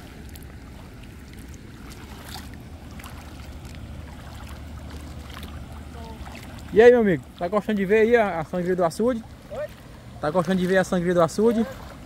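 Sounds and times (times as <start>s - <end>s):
water pouring over spillway: 0.0s - 12.0s.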